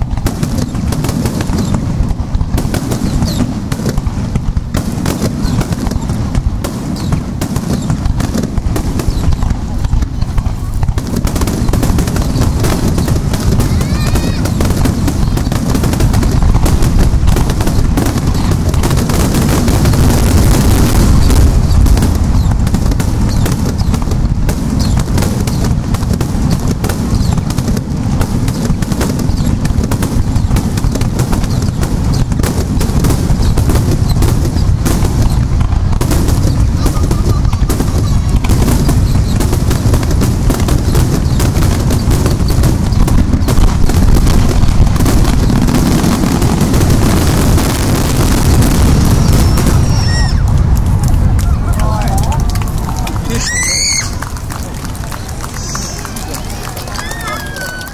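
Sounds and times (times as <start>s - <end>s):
fireworks bursting in a barrage: 0.0s - 57.9s.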